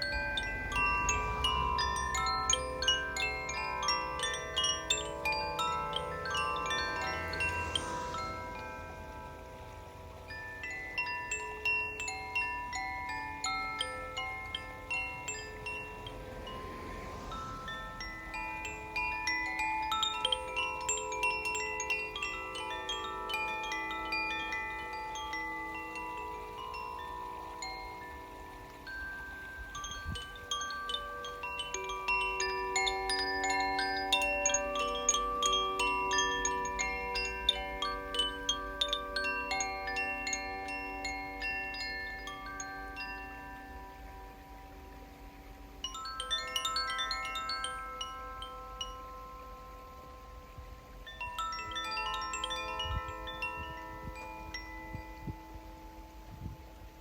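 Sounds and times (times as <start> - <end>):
chimes ringing: 0.0 - 57.0.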